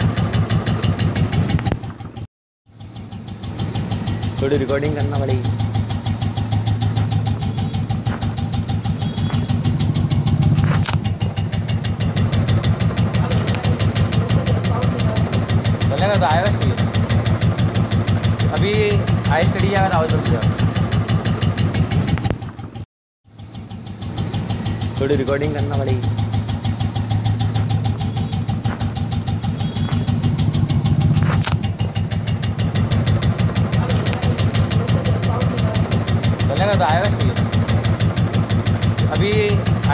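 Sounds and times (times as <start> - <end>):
motorcycle engine idling with ticking: 0.0 - 39.9.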